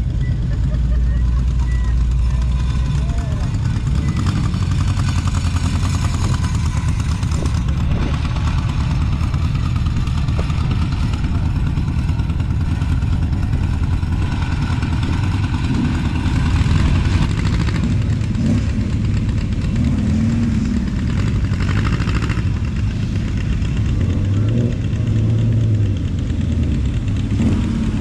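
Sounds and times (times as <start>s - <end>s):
car engines rumbling: 0.0s - 28.0s.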